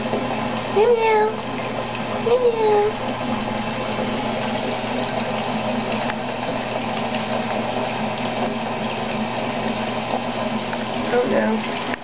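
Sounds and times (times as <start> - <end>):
faucet pouring into bathtub: 0.0 - 12.0.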